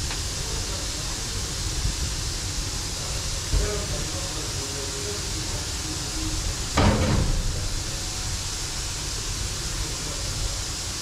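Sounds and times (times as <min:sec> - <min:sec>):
hiss and low rumble: 0:00.0 - 0:11.0.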